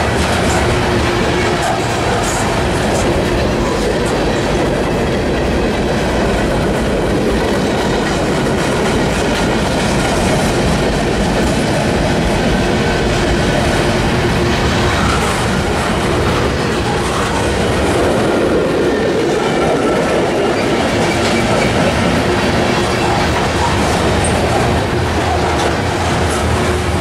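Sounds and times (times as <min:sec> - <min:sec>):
clickety-clack over rail joints: 0:00.0 - 0:27.0
freight train wheels rumbling: 0:00.0 - 0:27.0.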